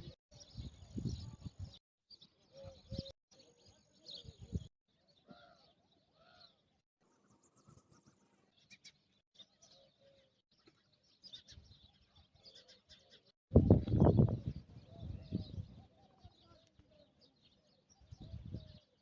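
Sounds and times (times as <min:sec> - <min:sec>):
faint bird calls and chirps: 0:00.0 - 0:19.0.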